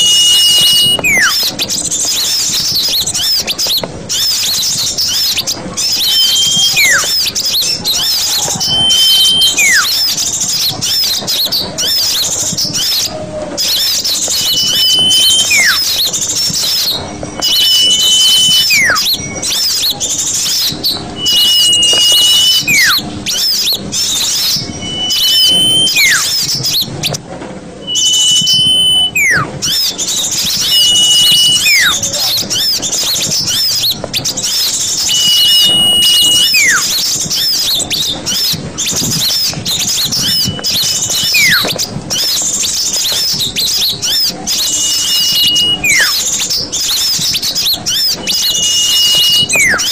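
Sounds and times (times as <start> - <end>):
flat and falling whistles: 0.0 - 27.2, 27.8 - 49.9
small birds chirping and twittering: 0.0 - 27.2, 27.8 - 49.9.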